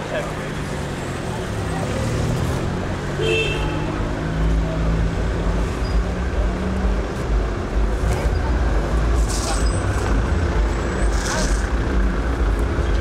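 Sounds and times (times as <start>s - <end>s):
city street noise: 0.0s - 13.0s
vehicle engine humming: 0.0s - 13.0s.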